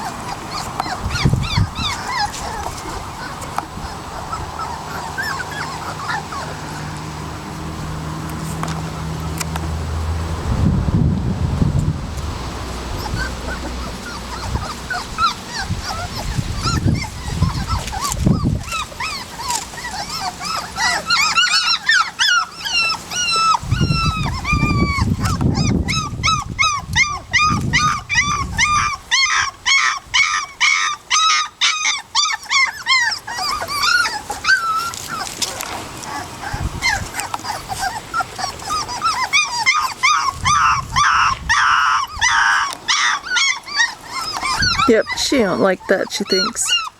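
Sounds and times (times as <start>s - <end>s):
puppies whining and yelping: 0.0s - 9.8s, 12.6s - 46.9s
wind buffeting microphone: 0.0s - 30.7s, 32.8s - 46.9s.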